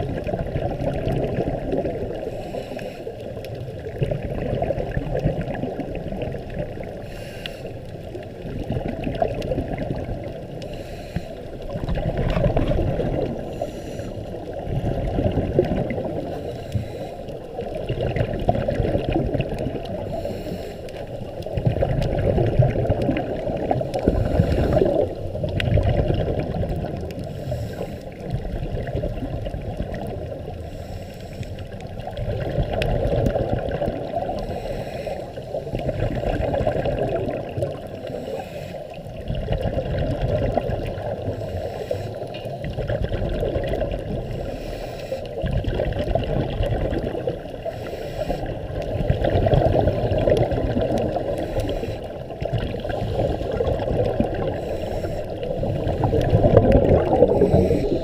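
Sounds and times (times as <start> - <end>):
muffled underwater rushing: 0.0 - 58.0.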